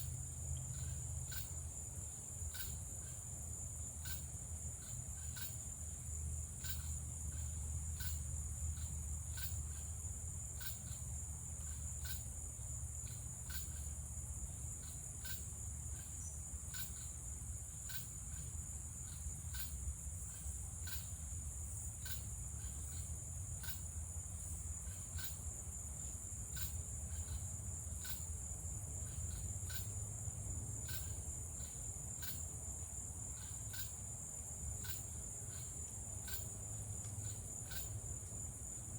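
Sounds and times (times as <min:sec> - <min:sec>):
clicking insect chirps: 0:00.0 - 0:01.7, 0:02.4 - 0:03.2, 0:04.0 - 0:24.0, 0:24.7 - 0:30.1, 0:30.7 - 0:38.5
crickets and cicadas trilling: 0:00.0 - 0:38.9.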